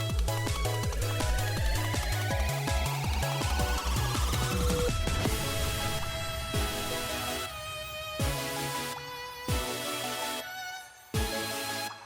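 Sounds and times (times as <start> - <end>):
electronic music with pulsing beat: 0.0 - 10.4, 11.2 - 12.0.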